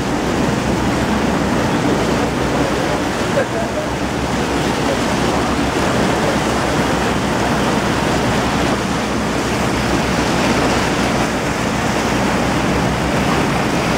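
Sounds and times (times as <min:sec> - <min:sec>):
boat engines humming: 0:00.0 - 0:13.9
propeller wash churning water: 0:00.0 - 0:13.9.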